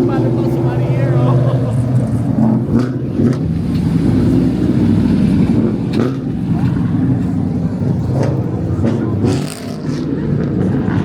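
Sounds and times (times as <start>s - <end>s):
vehicle engine running loudly: 0.0s - 11.0s.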